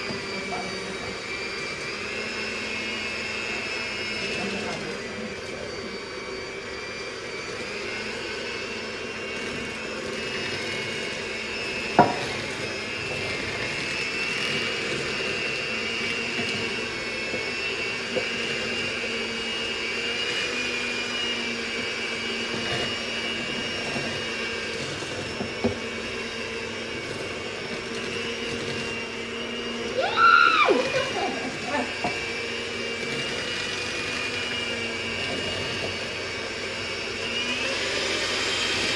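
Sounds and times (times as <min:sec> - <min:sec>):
electric hand mixer running: 0:00.0 - 0:38.9.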